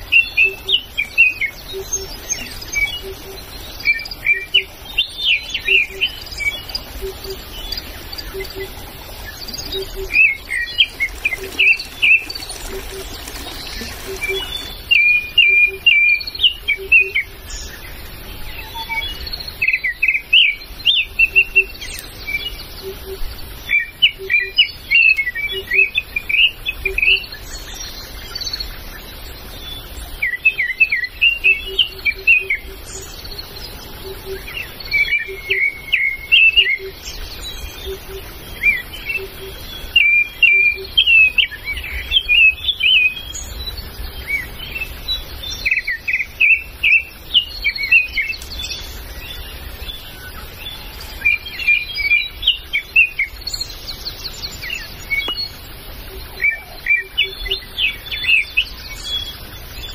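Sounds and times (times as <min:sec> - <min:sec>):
forest birds chirping: 0:00.0 - 0:59.9.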